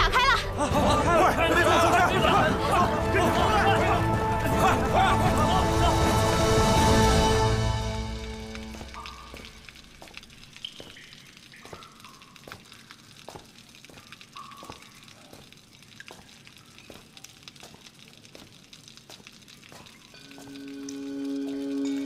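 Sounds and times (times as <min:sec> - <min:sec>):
water dripping plinks: 0:00.0 - 0:22.0.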